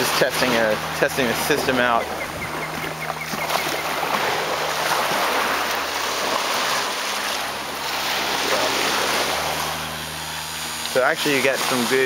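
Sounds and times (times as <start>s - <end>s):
electric motor hum: 0.0s - 12.0s
propeller rushing noise: 0.0s - 12.0s.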